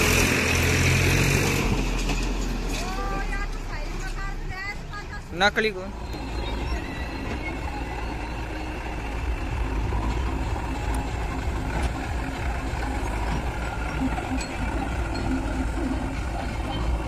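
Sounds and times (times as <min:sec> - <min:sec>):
backhoe loader engine running: 0:00.0 - 0:17.0
tractor diesel engine running: 0:00.0 - 0:17.0.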